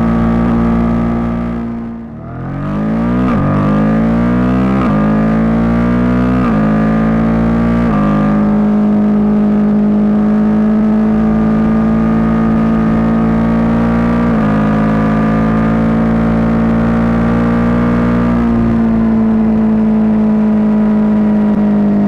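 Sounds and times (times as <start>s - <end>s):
motorcycle engine running high: 0.0s - 22.0s.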